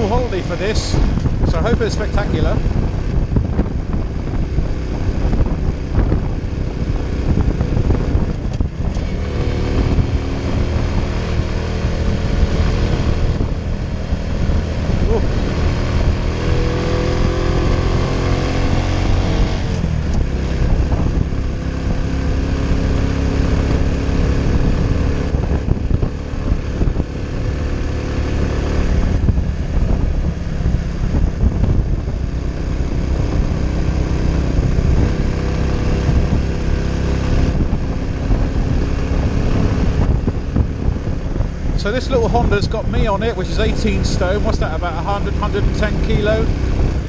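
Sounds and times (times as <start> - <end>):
motorcycle engine pulling uphill: 0.0 - 47.0
steady rushing noise: 0.0 - 47.0.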